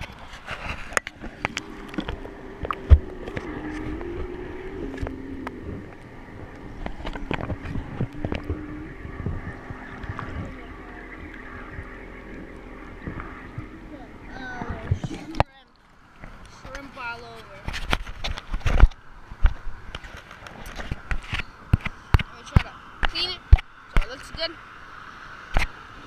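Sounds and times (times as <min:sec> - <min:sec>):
wavering motor drone: 0:00.0 - 0:26.0.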